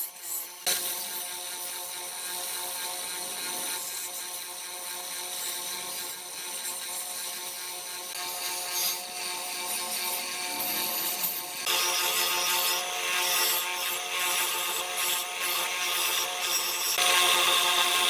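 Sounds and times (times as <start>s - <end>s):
small electric power tool whining: 0.0s - 18.0s.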